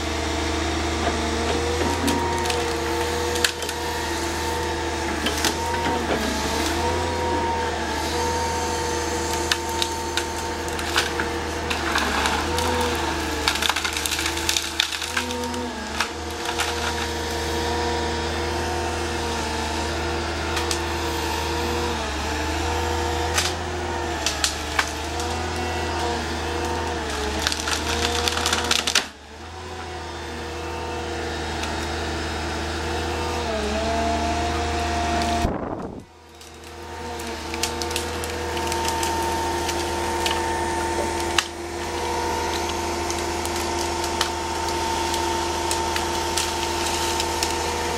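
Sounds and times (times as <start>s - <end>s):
machine engine and hydraulics: 0.0s - 47.9s
wood cracking and splintering: 1.0s - 7.6s, 8.2s - 29.9s, 33.1s - 47.9s.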